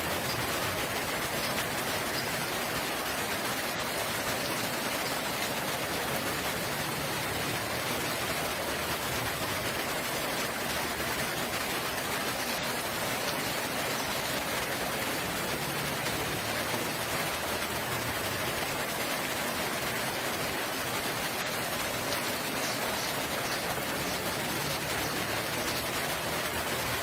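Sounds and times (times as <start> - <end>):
steady rainfall: 0.0 - 27.0.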